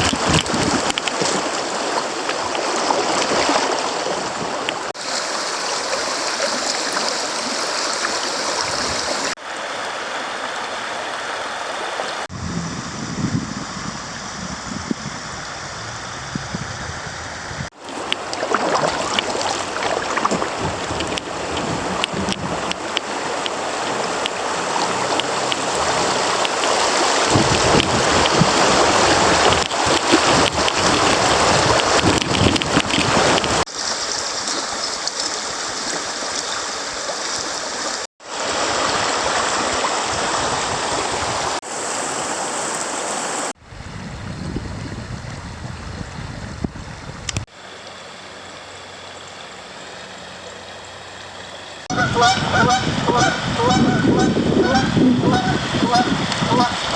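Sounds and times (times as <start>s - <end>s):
creek water rushing over riffles: 0.0s - 13.0s, 13.7s - 43.6s, 47.5s - 56.9s.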